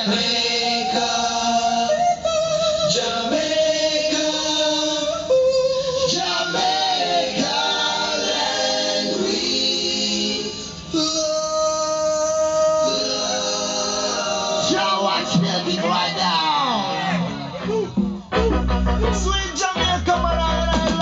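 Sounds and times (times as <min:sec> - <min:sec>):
voices singing in harmony: 0:00.0 - 0:19.2
reggae music over sound system: 0:00.0 - 0:21.0.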